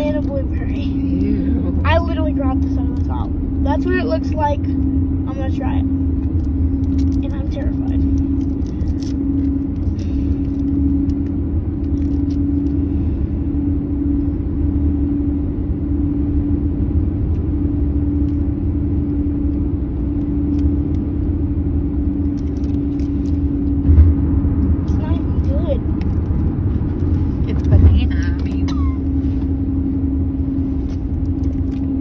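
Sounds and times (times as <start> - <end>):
car cabin rumble: 0.0 - 32.0
even hum: 0.0 - 32.0.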